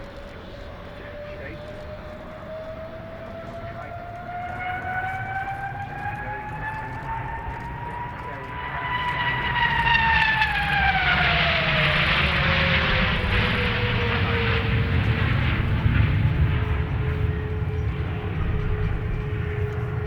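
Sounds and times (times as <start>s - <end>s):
jet engine roar: 0.0s - 20.0s
jet engine whine: 0.0s - 20.0s.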